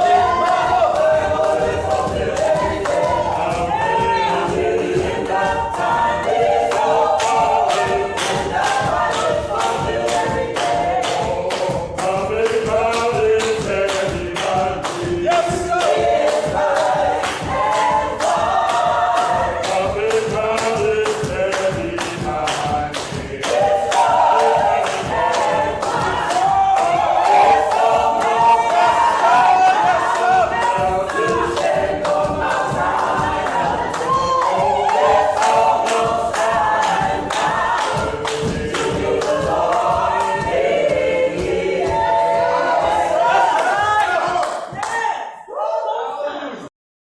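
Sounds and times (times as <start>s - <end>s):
sharp beat strikes: 0.0s - 44.8s
gospel choir singing a cappella: 0.0s - 46.6s.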